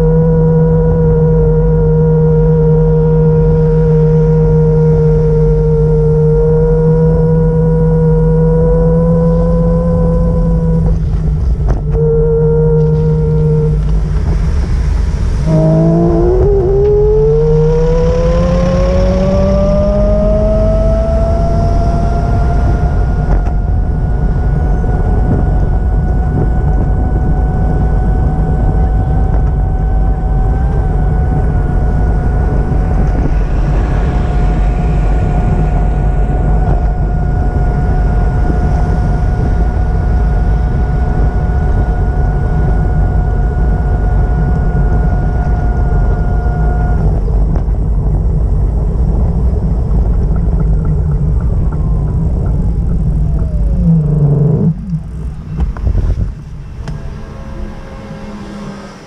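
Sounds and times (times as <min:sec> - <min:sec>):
heavy low rumble: 0:00.0 - 0:59.0
vehicle whine rising: 0:00.0 - 0:59.0.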